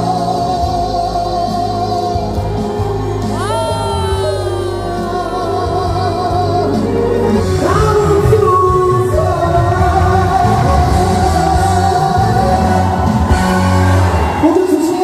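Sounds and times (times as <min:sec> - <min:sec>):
person singing with vibrato: 0:00.0 - 0:13.3
band backing track: 0:00.0 - 0:15.0
steady bass: 0:00.0 - 0:15.0.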